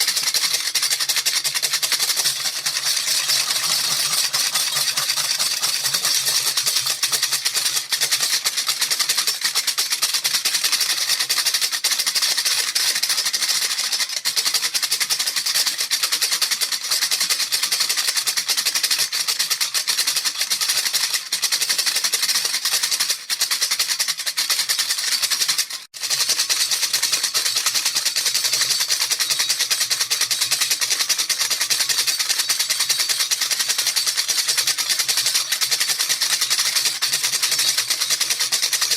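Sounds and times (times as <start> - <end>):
baby rattle shaking: 0.0 - 38.9.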